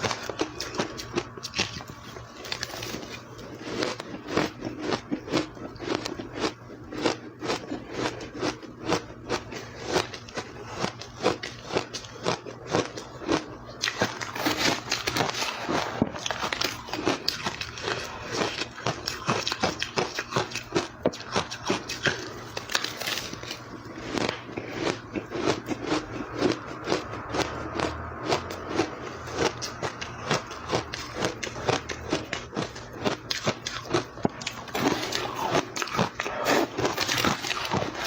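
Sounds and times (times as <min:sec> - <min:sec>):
person chewing ice: 0:00.0 - 0:38.0.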